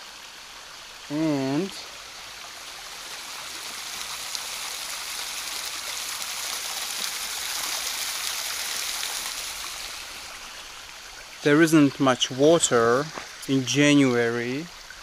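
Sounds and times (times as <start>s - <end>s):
water trickling over rocks: 0.0s - 15.0s.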